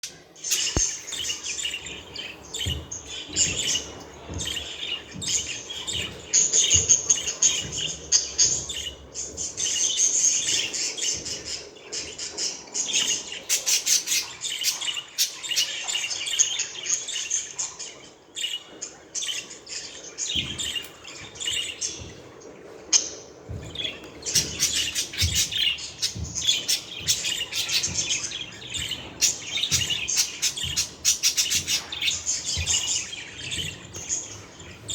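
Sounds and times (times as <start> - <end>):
budgerigars chirping: 0.1 - 17.1, 18.5 - 22.3, 23.0 - 34.9.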